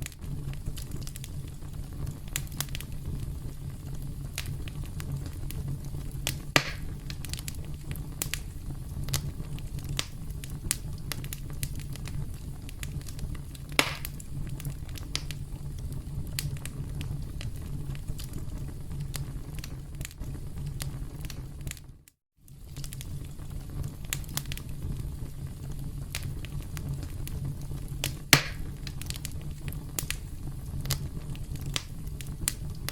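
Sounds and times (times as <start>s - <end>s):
campfire crackling: 0.0s - 32.9s.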